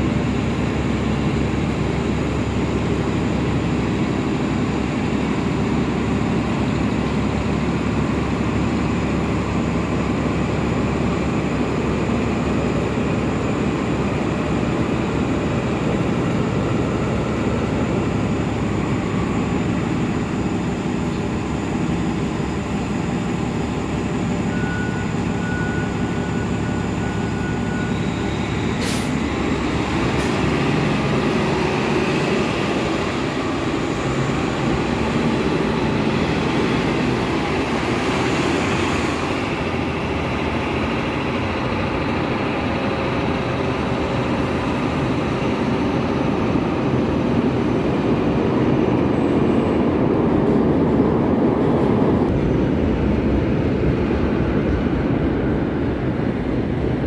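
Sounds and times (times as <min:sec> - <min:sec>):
buses idling and pulling away: 0:00.0 - 0:57.0
street traffic: 0:00.0 - 0:57.0.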